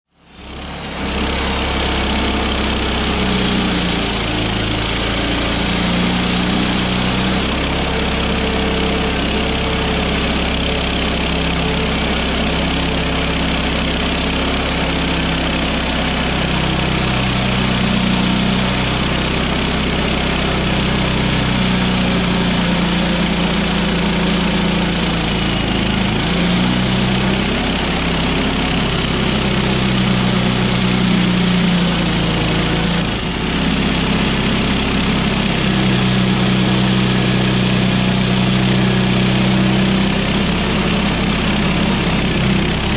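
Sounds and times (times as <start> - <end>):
gasoline engine under load: 0.2 - 42.9
band saw cutting wood: 0.3 - 42.9.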